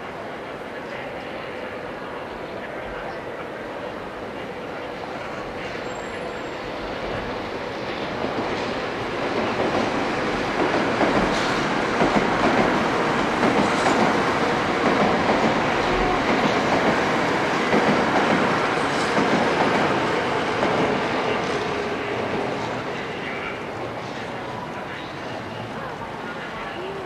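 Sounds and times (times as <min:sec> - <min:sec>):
train wheels rumbling on rail: 0:05.0 - 0:27.0.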